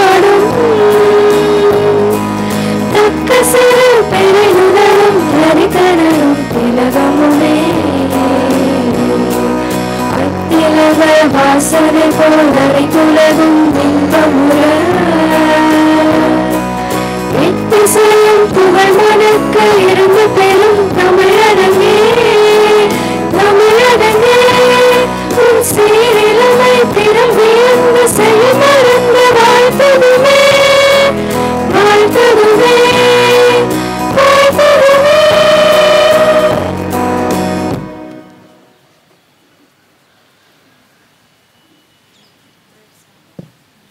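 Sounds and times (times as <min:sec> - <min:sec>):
women singing in unison: 0:00.0 - 0:16.7, 0:17.3 - 0:36.8
instrumental accompaniment: 0:00.0 - 0:39.2.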